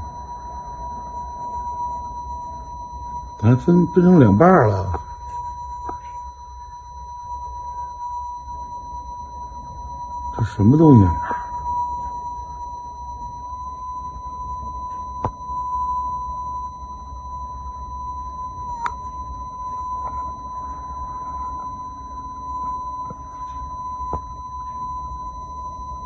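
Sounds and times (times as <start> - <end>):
high-pitched buzzing tone: 0.0 - 26.0
low hum: 0.0 - 26.0.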